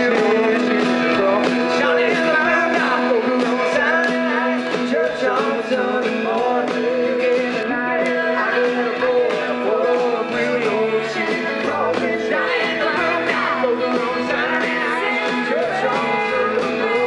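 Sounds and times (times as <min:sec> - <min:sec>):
person singing: 0:00.0 - 0:17.0
steady drumbeat: 0:00.0 - 0:17.0
strummed acoustic guitar: 0:00.0 - 0:17.0.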